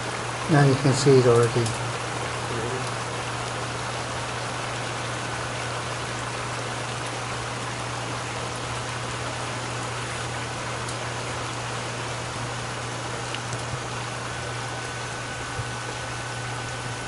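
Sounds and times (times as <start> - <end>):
liquid nitrogen boiling hiss: 0.0 - 17.0
steady low hum: 0.0 - 17.0.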